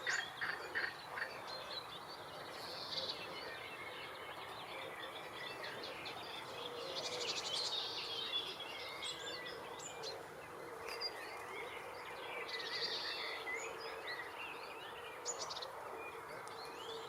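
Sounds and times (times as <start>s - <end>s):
songbirds chirping and trilling: 0.0s - 17.0s.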